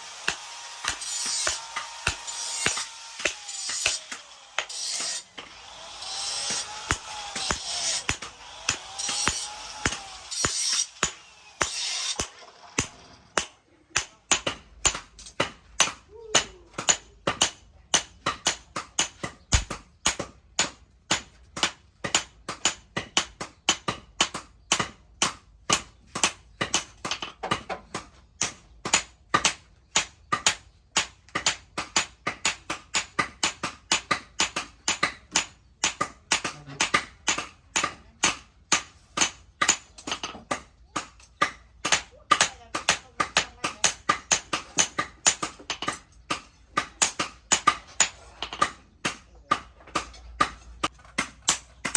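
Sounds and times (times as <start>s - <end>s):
hammer striking steel on anvil: 0.2s - 27.3s, 28.0s - 51.9s.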